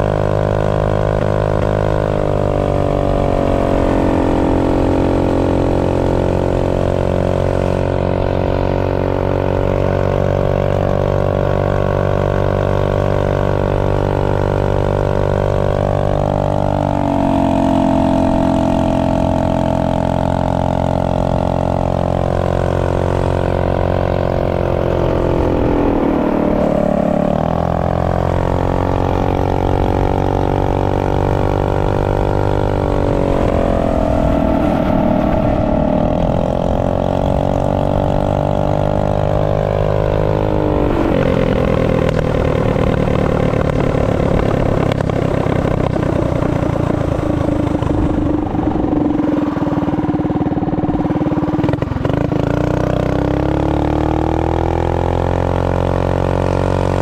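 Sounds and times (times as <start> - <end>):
small engine running at high revs: 0.0 - 57.0.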